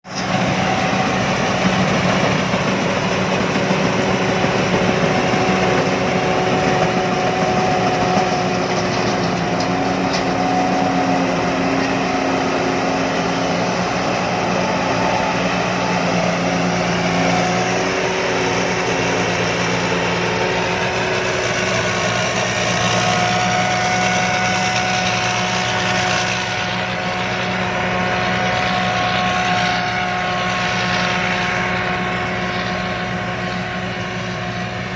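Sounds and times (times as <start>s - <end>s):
combine harvester engine running: 0.0s - 34.9s
constant machine whine: 0.0s - 34.9s.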